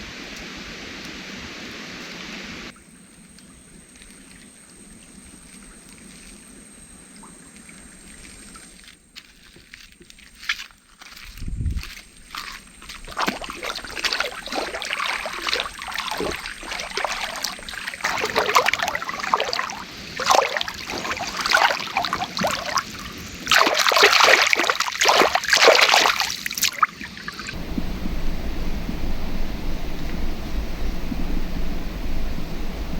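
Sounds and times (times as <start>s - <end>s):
river water splashing: 0.0s - 32.9s.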